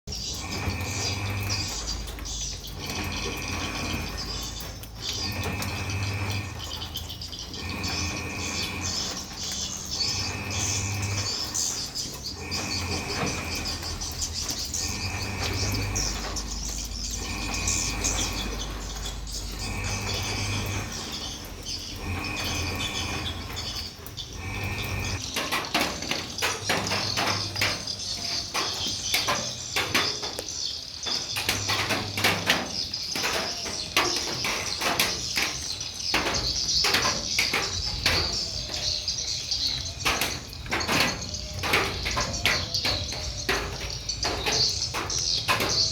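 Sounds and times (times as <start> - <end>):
swiftlets twittering and chirping: 0.1 - 45.9.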